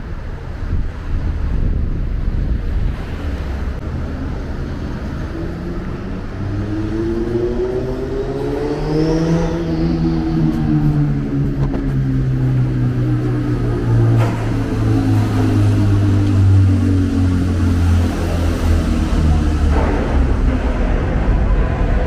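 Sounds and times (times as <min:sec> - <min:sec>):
street rumble: 0:00.0 - 0:22.0
vehicle engine accelerating: 0:02.9 - 0:22.0.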